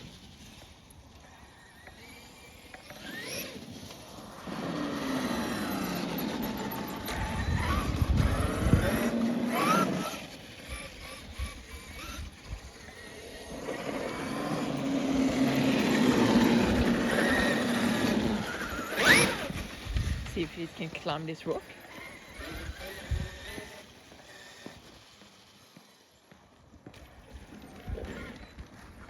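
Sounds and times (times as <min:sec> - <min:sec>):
tyres rumbling over ground: 0:00.0 - 0:25.7
electric motor whining: 0:00.0 - 0:26.0.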